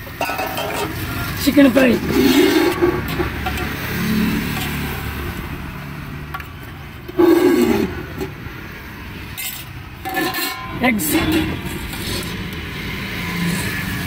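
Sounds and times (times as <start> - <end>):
vehicle engine passing: 0.6 - 14.0.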